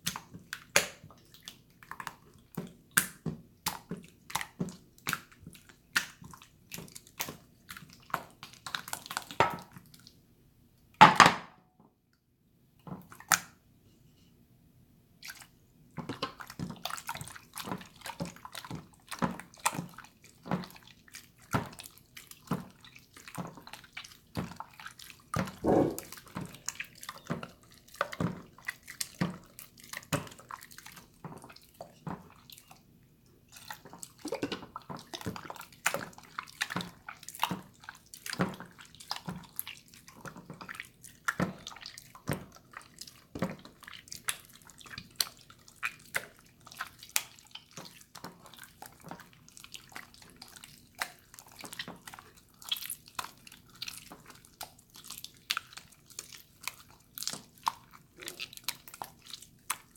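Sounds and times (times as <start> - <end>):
wet slime squelching: 0.0 - 10.2, 13.0 - 13.6, 15.2 - 59.9.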